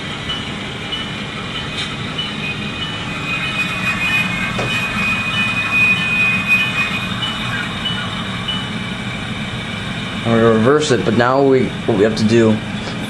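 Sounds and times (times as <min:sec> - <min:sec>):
diesel engine sound: 0:00.0 - 0:13.0
high brake squeal: 0:00.3 - 0:11.8.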